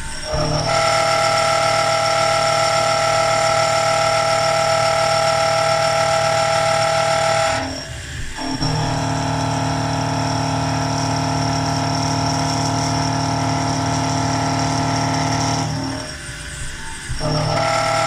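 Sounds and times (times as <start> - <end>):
machine tool whining: 0.0 - 18.0.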